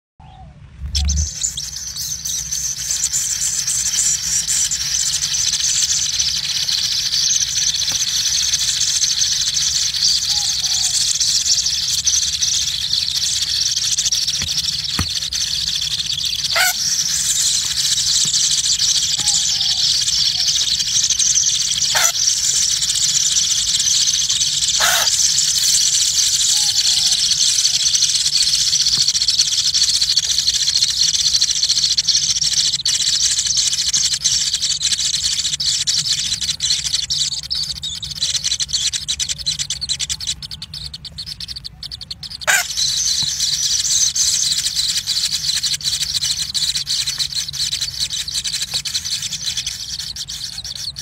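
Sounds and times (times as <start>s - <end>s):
nestlings begging: 0.2s - 51.0s.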